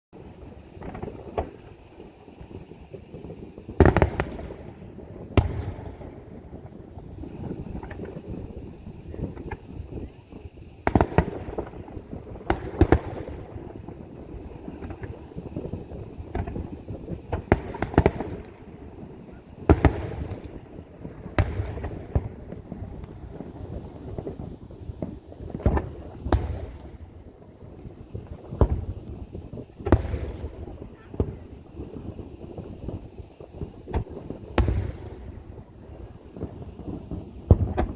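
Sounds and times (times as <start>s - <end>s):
fireworks shells bursting: 0.2s - 37.9s
low rumbling and crackling: 0.2s - 37.9s.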